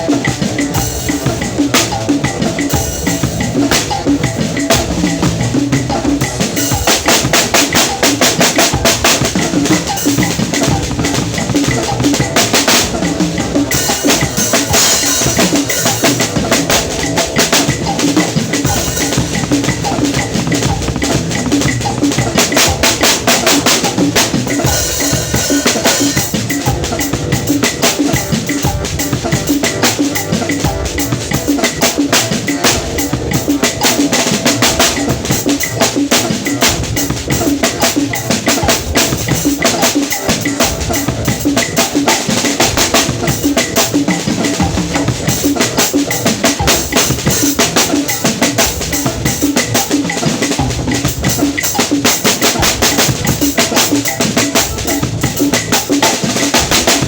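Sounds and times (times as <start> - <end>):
drum kit playing fast: 0.0 - 57.0.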